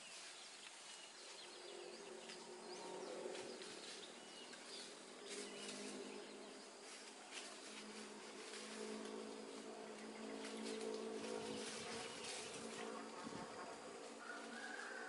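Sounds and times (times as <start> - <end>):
low wavering insect buzz: 0.0 - 15.0.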